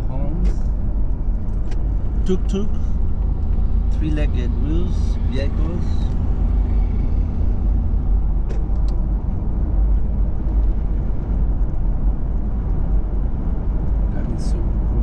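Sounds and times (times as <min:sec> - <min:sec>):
car interior road and engine noise: 0:00.0 - 0:15.0.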